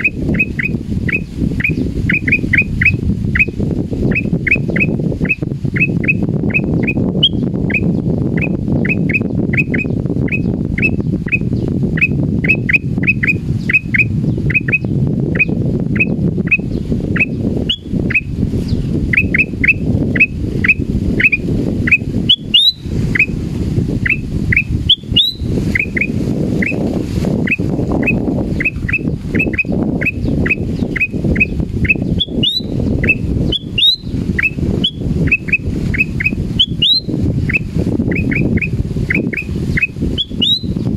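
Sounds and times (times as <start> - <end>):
bird whistled calls: 0.0 - 18.3, 19.1 - 23.4, 24.0 - 26.8, 27.4 - 40.8
steady low rumble: 0.0 - 40.9.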